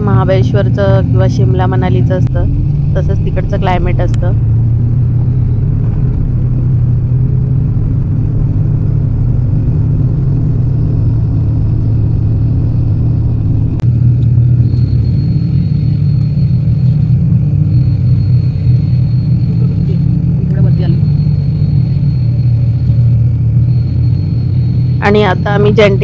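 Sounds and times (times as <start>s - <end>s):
bus engine and road rumble: 0.0s - 26.0s
thin high whine: 0.0s - 26.0s.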